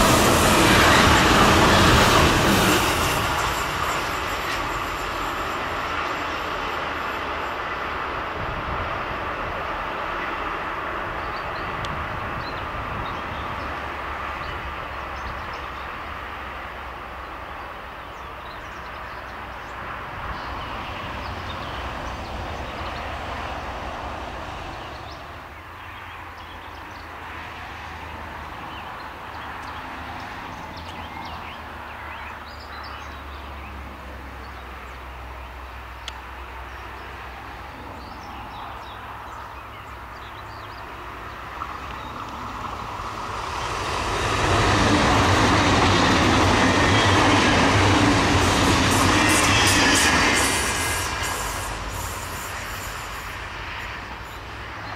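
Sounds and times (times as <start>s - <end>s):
train wheels rumbling on track: 0.0s - 54.9s.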